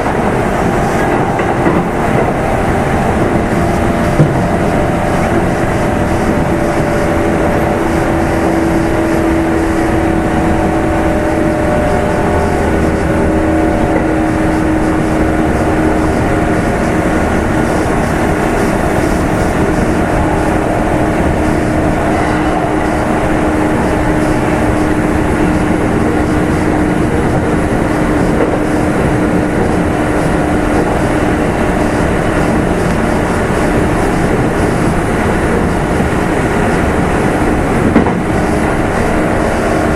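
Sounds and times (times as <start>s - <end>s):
train traction motor hum: 0.0s - 39.9s
wheel and rail noise: 0.0s - 39.9s.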